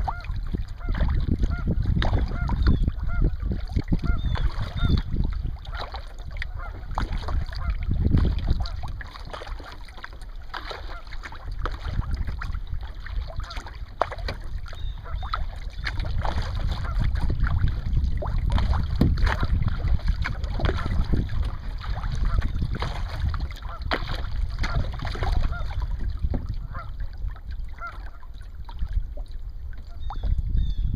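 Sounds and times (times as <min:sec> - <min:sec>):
paddle splashing in water: 0:00.0 - 0:30.8
wind on microphone: 0:00.0 - 0:30.9.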